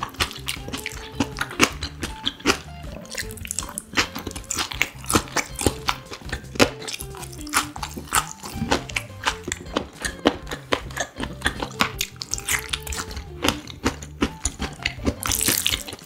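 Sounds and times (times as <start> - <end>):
crunching and chewing: 0.0 - 16.0
soft background music: 0.0 - 16.0.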